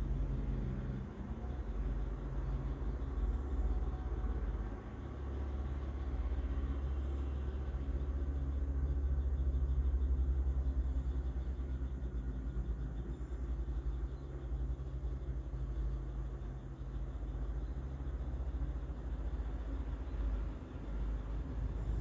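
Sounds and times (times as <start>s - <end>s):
low rumble with hum: 0.0s - 22.0s.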